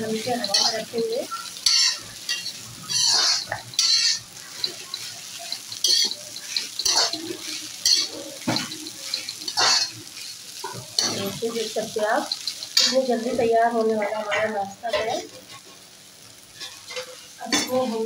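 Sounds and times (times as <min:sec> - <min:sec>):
spoon scraping metal pan: 0:00.0 - 0:13.4, 0:16.6 - 0:18.0
light sizzle: 0:00.0 - 0:18.0.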